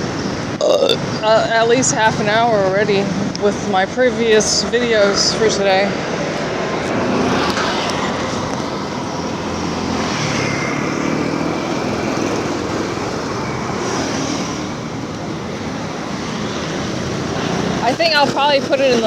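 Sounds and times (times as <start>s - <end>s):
street traffic passing: 0.0s - 19.0s.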